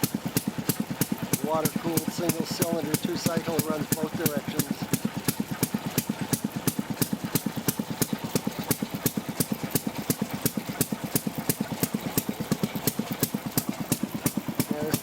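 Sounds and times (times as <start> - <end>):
single-cylinder engine idling: 0.0 - 15.0.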